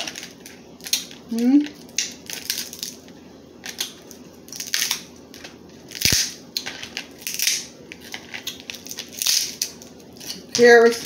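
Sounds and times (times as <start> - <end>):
crab shells cracking: 0.0 - 11.0.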